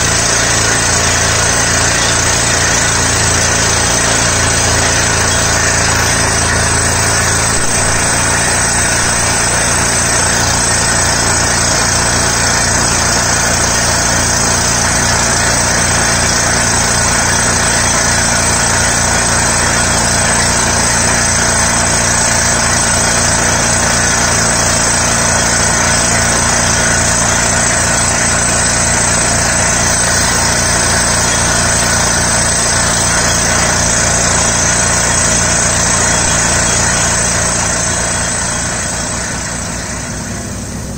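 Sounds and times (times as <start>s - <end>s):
drilling rig engine and compressor: 0.0s - 40.9s
fast low pulsing: 0.0s - 40.9s.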